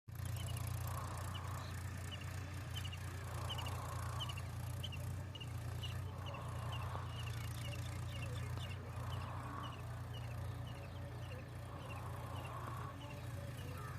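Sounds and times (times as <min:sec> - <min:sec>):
tractor diesel engine drone: 0:00.1 - 0:13.9.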